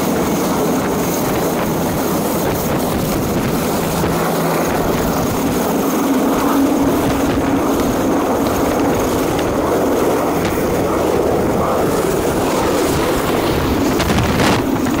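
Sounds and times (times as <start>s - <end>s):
helicopter hovering overhead: 0.0s - 15.0s
wind noise on microphone: 0.0s - 15.0s.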